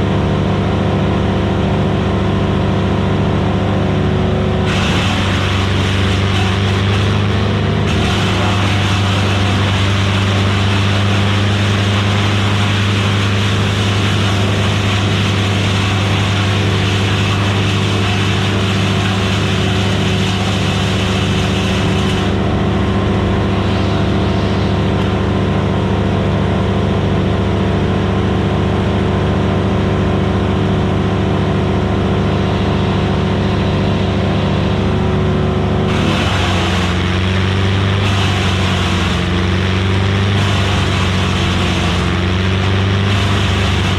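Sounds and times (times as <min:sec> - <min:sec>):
wood chipper engine running: 0:00.0 - 0:43.9.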